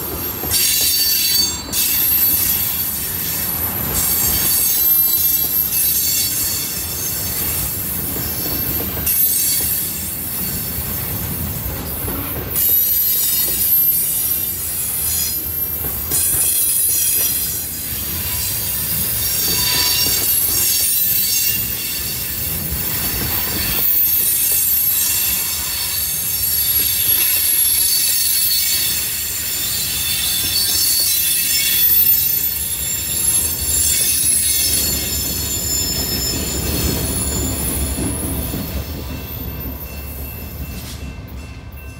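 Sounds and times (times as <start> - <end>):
rumble of wheels on track: 0.0 - 41.9
train wheels squealing on rails: 0.0 - 41.9.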